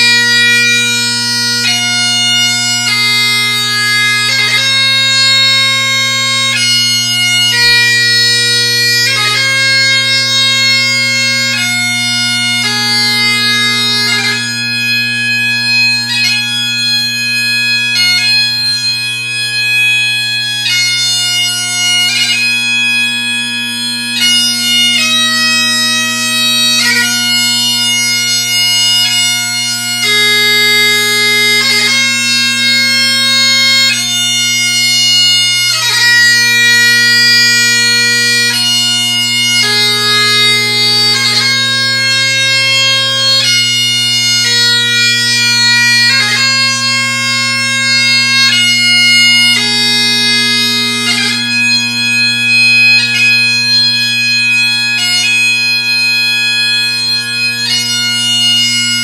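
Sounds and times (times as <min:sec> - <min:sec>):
bagpipe playing a slow lament: 0:00.0 - 0:59.0.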